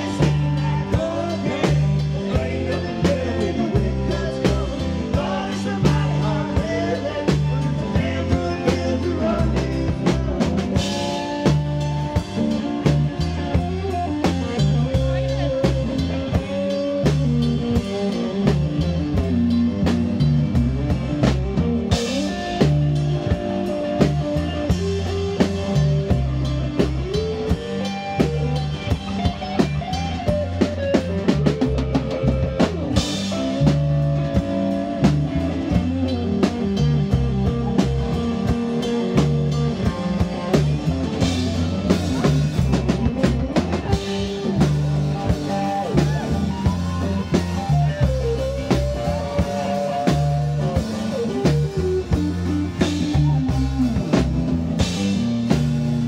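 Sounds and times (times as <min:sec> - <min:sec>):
drum kit beat with cymbal crashes: 0:00.0 - 0:56.0
electric guitar: 0:00.0 - 0:56.0.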